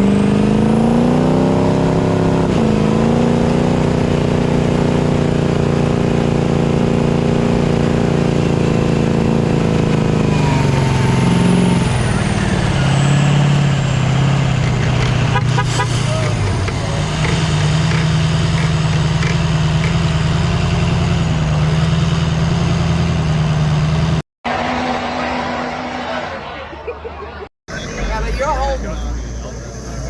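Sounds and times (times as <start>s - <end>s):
diesel engine revving: 0.0s - 26.6s, 27.7s - 30.0s.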